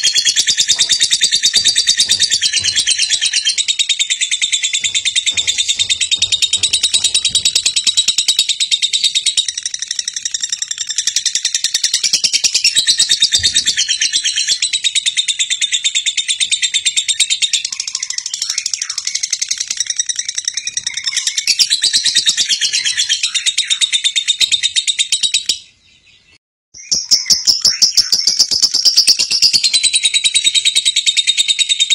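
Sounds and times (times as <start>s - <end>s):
lovebird chattering song: 0.0s - 25.7s, 26.8s - 31.9s.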